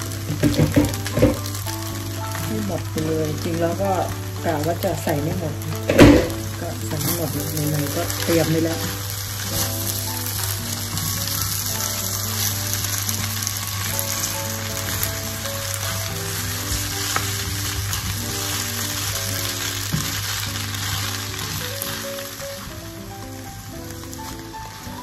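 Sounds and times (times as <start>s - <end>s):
food sizzling in a frying pan: 0.0s - 25.0s
wooden spatula tossing food: 0.0s - 25.0s.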